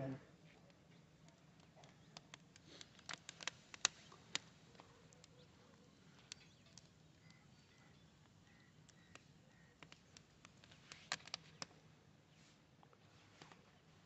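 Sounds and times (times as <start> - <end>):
firewood crackling and popping: 0.3 - 14.0.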